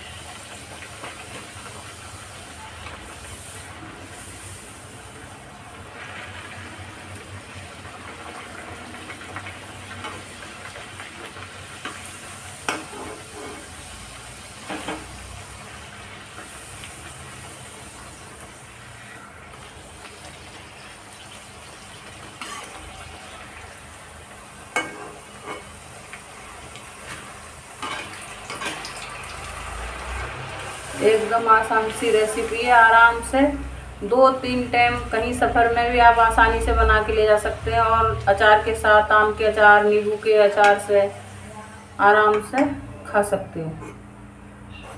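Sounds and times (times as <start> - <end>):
food sizzling in hot oil: 0.0 - 42.4.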